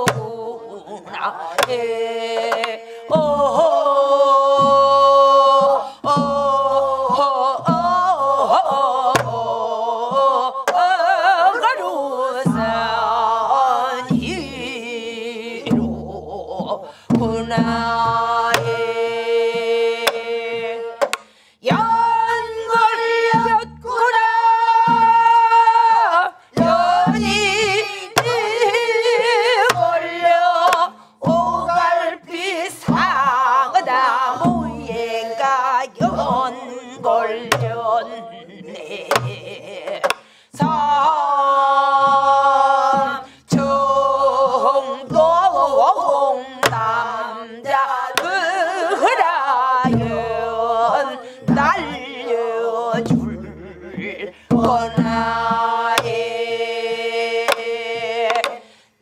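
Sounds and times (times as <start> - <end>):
other voices singing: 0.0 - 59.0
woman singing with vibrato: 0.0 - 59.0.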